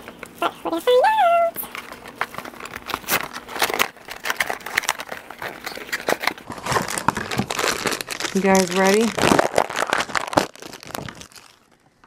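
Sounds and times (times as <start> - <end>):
cardboard packaging crinkling: 0.0 - 12.0.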